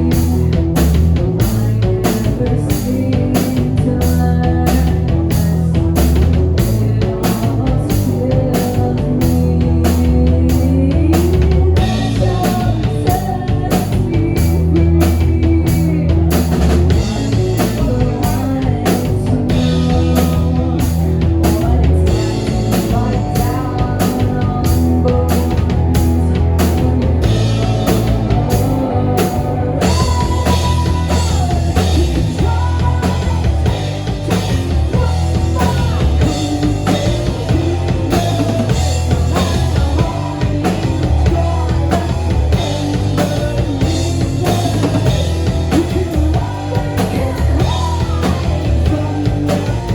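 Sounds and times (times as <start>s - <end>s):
bass notes: 0.0s - 49.9s
drum kit steady beat: 0.0s - 49.9s
electric guitar: 0.0s - 49.9s.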